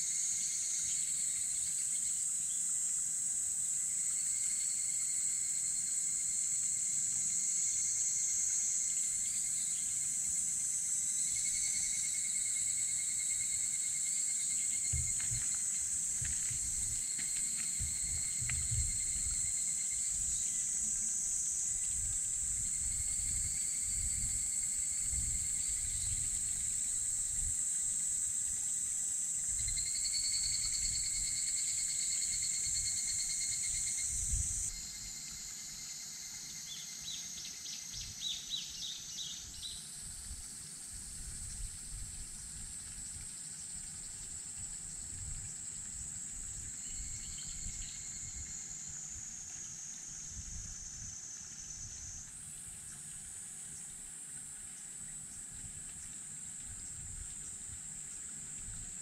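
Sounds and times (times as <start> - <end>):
insects droning high-pitched: 0.0 - 59.0
lower insect buzz: 0.0 - 59.0.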